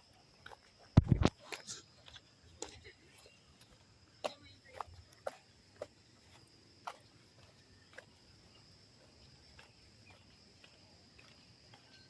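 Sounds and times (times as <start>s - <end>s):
footsteps on a road: 0.0s - 12.0s.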